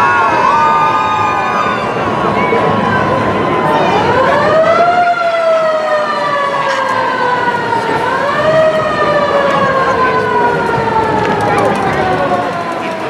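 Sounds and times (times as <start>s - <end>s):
vehicle siren wailing: 0.0s - 13.0s.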